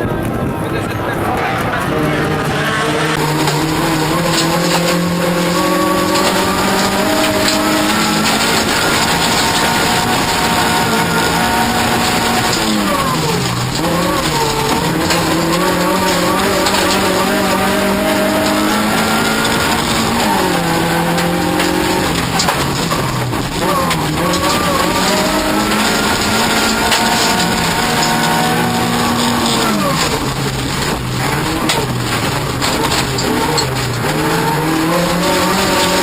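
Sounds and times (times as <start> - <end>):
racing car engine at full throttle: 0.0 - 36.0.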